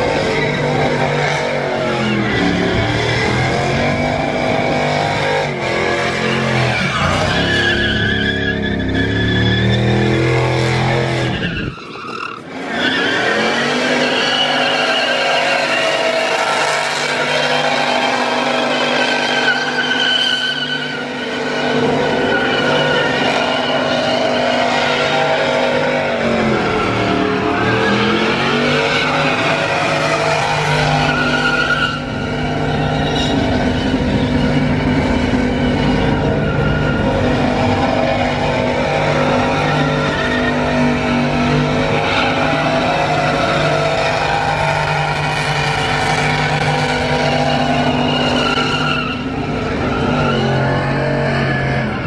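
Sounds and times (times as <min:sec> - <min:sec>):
truck engines revving high: 0:00.0 - 0:52.0
tyres squealing on pavement: 0:00.0 - 0:52.0.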